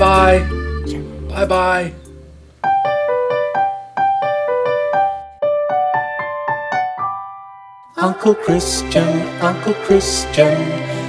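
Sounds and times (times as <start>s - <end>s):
keyboard playing quick melody: 0.0s - 11.0s.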